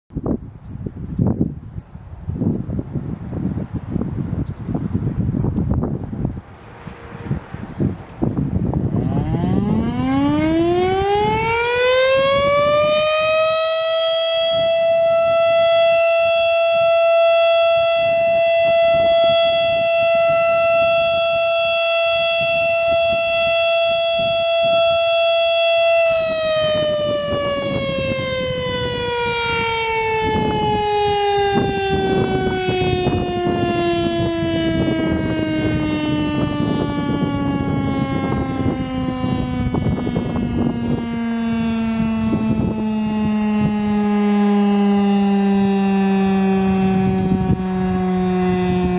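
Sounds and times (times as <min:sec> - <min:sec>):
warning siren winding: 0:09.0 - 0:48.9.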